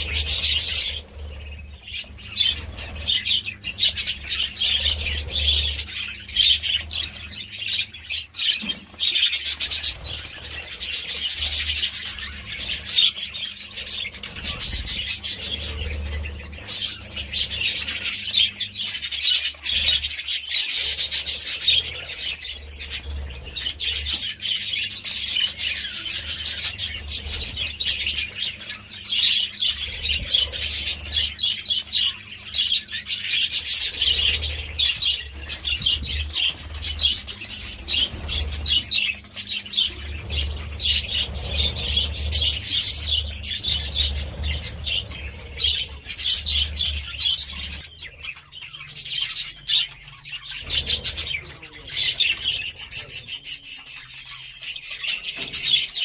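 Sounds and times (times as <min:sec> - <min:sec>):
budgerigars chattering and warbling: 0:00.0 - 0:56.0.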